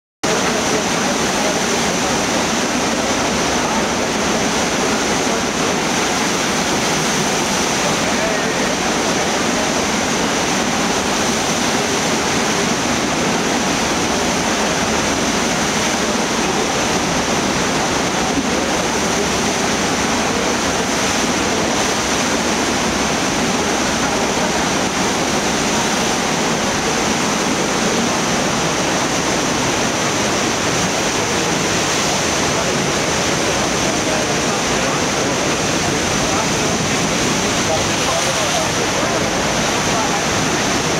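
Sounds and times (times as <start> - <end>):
whitewater rushing: 0.2 - 40.9.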